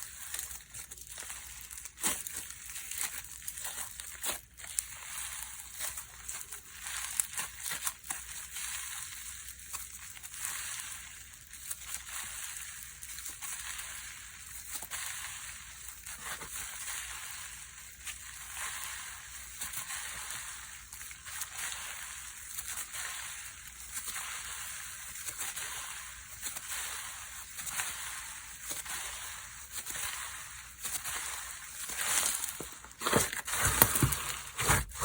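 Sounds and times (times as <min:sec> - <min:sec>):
slime bubbles crackling: 0:00.0 - 0:35.0.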